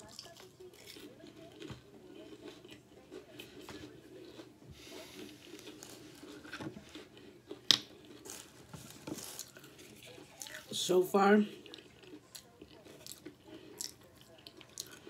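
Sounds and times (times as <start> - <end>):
chewing onion ring: 0.0 - 15.0.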